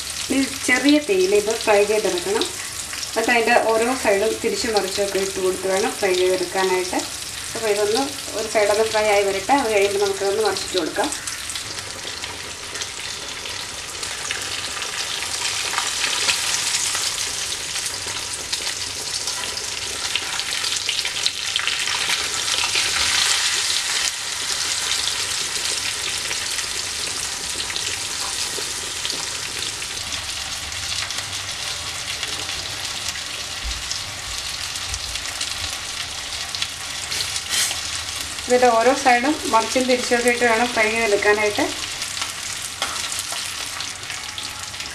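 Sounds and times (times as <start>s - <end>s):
fish sizzling in hot oil: 0.0s - 44.9s.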